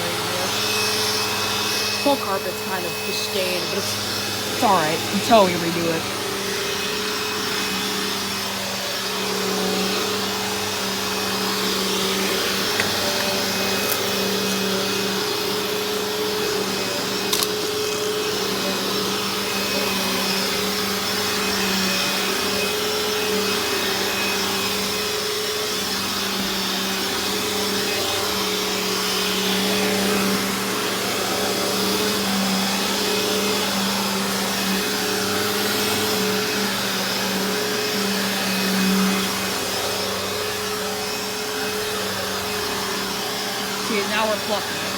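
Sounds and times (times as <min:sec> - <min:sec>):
vacuum cleaner running on carpet: 0:00.0 - 0:44.9.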